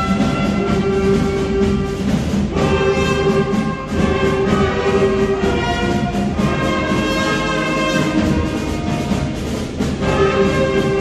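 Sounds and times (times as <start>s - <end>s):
wind band playing sustained notes: 0.0s - 11.0s.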